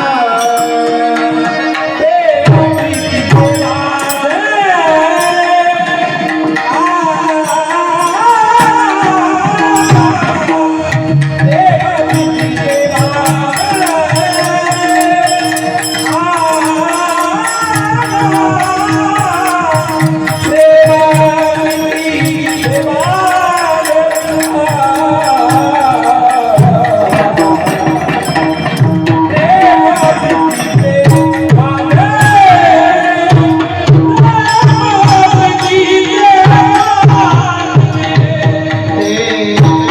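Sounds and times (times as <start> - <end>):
person singing ornamented melody: 0.0 - 37.4
tabla drumming: 0.0 - 39.9.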